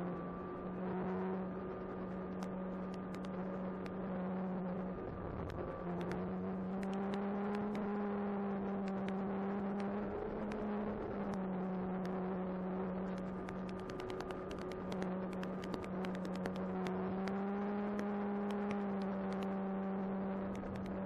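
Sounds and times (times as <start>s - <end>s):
faint clicks and crackles: 0.3s - 21.0s.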